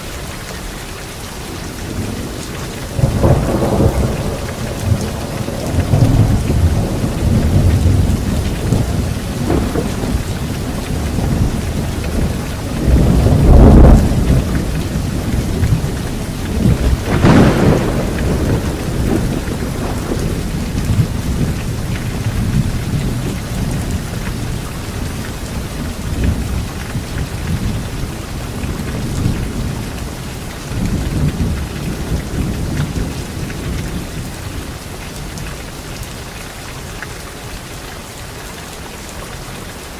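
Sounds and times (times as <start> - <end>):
rain on leaves: 0.0 - 39.9
thunder rumbling: 1.6 - 34.9.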